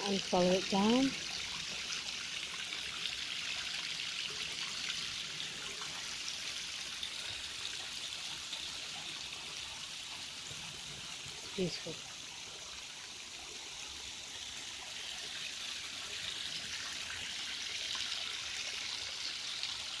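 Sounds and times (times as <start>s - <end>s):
small waterfall splashing: 0.0s - 20.0s.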